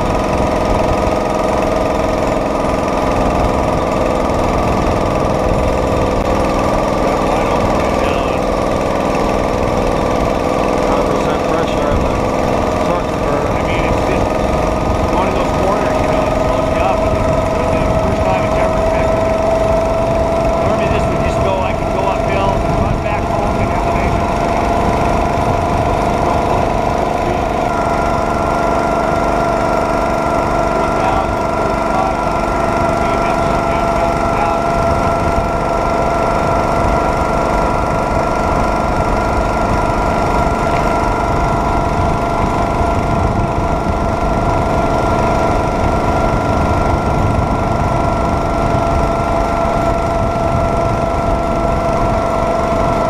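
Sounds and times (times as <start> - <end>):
small gasoline engine running: 0.0 - 53.0.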